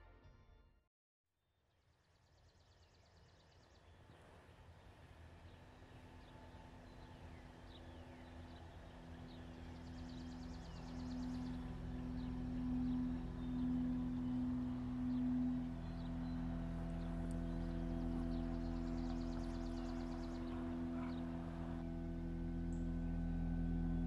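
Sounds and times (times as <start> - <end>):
songbirds trilling and chirping: 2.3 - 22.0
low steady hum-like tone: 2.3 - 24.0.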